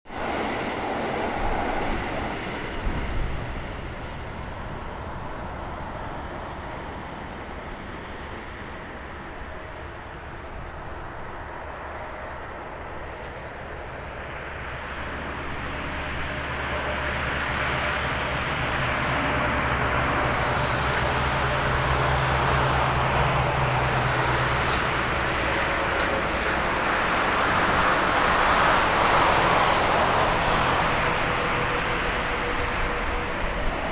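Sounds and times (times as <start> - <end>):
aircraft noise: 0.1 - 33.9
propeller plane engine drone: 0.1 - 33.9.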